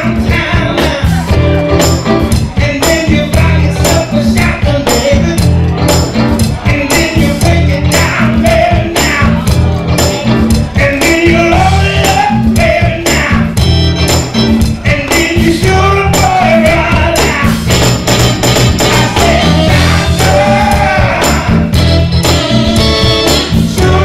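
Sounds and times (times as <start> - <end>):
pulsing bass line: 0.0 - 24.0
tambourine on the beat: 0.0 - 24.0
upbeat soul music: 0.0 - 24.0.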